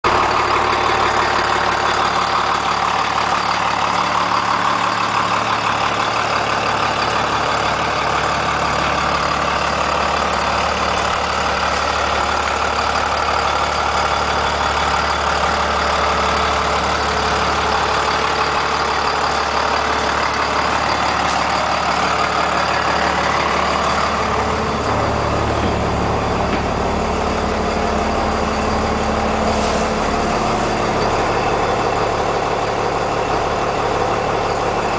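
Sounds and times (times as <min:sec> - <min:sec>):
diesel bus engine idling: 0:00.0 - 0:34.9.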